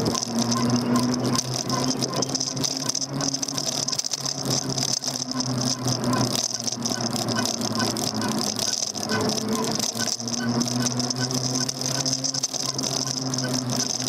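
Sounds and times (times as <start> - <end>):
e-bike rattling over road: 0.0 - 14.0
electric motor hum: 0.0 - 14.0.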